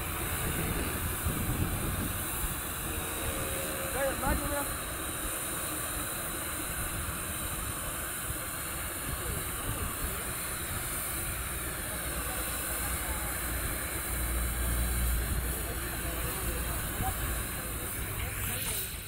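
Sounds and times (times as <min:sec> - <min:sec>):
thermite welding hiss: 0:00.0 - 0:19.0.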